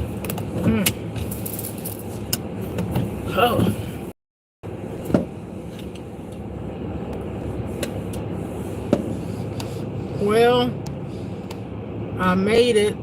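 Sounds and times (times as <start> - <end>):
car interior rumble and hiss: 0.0 - 4.1, 4.7 - 13.0.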